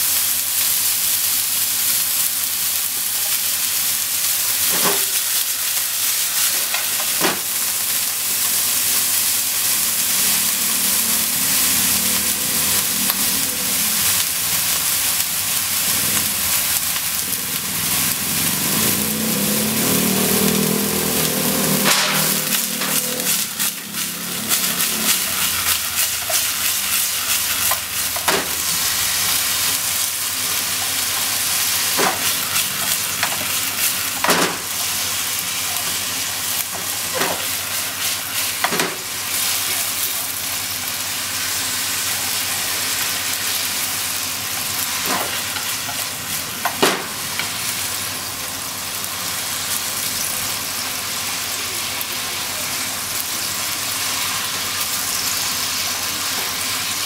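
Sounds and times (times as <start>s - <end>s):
mushrooms sizzling in oil: 0.0s - 57.0s.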